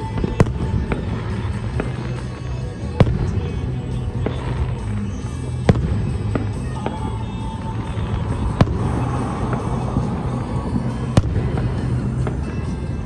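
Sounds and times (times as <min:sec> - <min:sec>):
fireworks shells bursting: 0:00.0 - 0:13.0.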